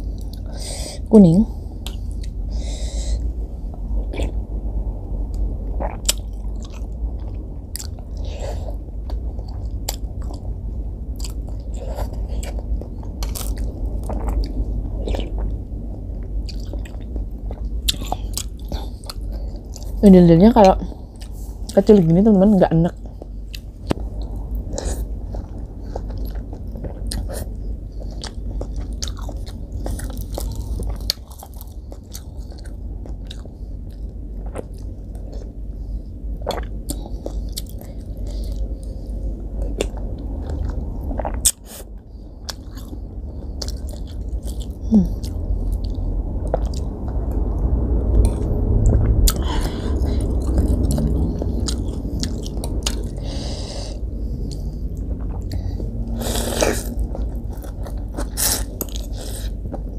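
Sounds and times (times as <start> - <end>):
chewing and sipping soup: 4.0 - 4.4, 5.3 - 20.0, 20.6 - 21.8, 22.9 - 59.9.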